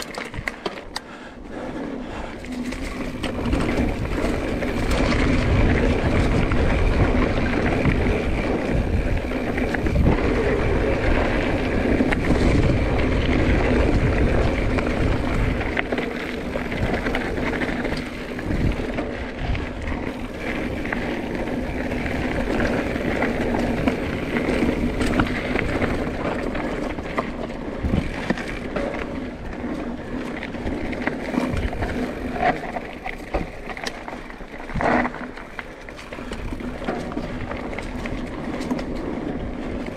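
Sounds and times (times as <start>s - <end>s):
bike rattling and clicking: 0.0s - 39.9s
bike tyres rolling over dirt: 0.0s - 39.9s
wind rumbling on microphone: 0.0s - 39.9s.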